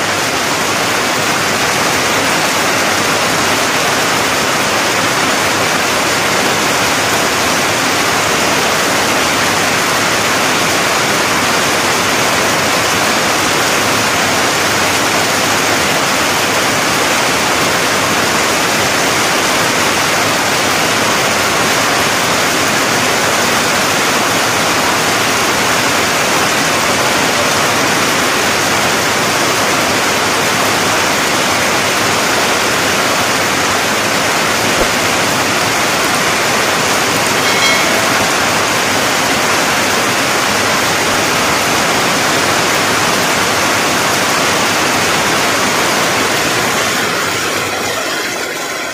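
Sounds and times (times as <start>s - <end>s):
heavy rain on trees: 0.0s - 48.9s.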